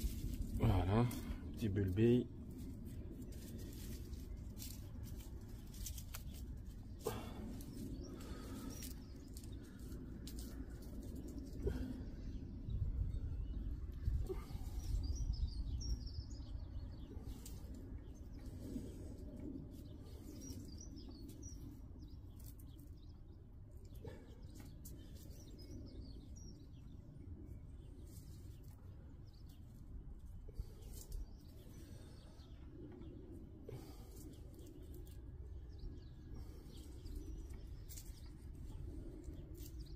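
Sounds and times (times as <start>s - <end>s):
songbirds twittering: 0.0s - 39.9s
steady low rumble: 0.0s - 39.9s.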